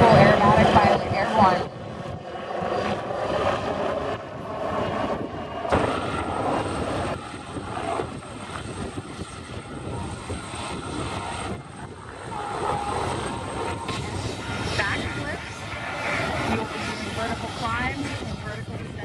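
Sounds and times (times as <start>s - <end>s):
helicopter flying overhead: 0.0s - 19.0s
helicopter turbine whine: 0.0s - 19.0s.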